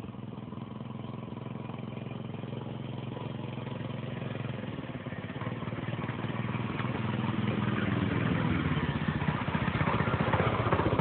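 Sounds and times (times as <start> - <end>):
pit bike engine running: 0.0 - 11.0.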